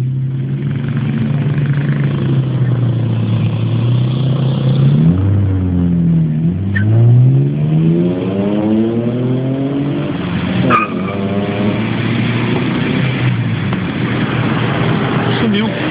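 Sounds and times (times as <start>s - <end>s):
car engine accelerating: 0.0s - 15.9s.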